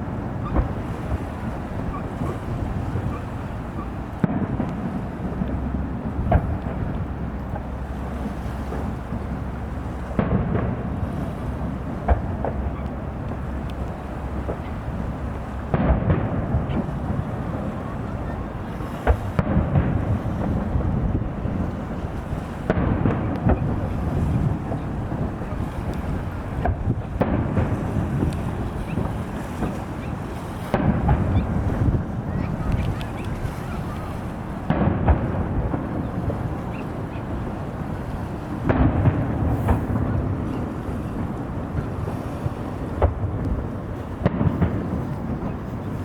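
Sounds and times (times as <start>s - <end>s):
fireworks booming: 0.0s - 46.0s
steady low rumble: 0.0s - 46.0s.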